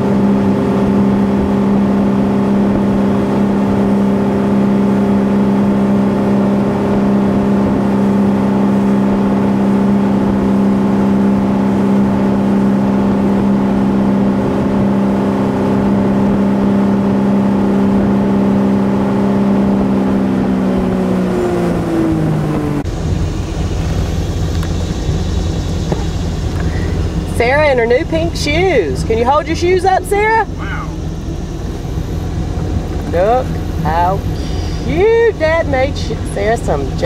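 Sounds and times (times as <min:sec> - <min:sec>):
boat engine running: 0:00.0 - 0:37.0
rush of boat wake: 0:00.0 - 0:37.0.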